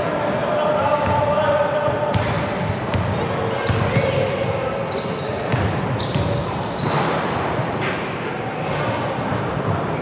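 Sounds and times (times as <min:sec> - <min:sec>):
basketball game noise: 0:00.0 - 0:10.0
sneakers squeaking on floor: 0:01.0 - 0:10.0.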